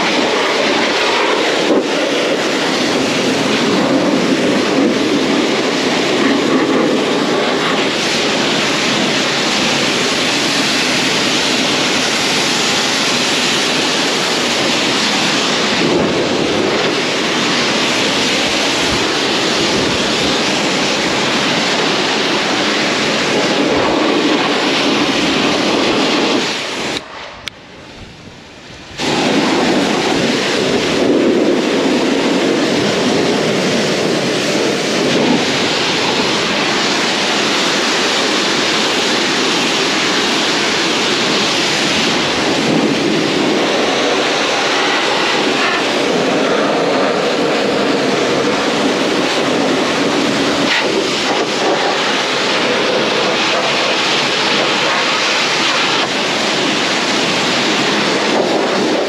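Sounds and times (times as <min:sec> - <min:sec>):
high-pressure water jet hissing: 0:00.0 - 0:59.0.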